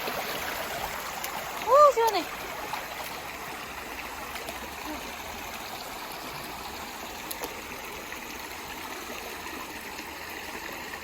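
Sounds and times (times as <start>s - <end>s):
stream water running over rocks: 0.0s - 11.0s.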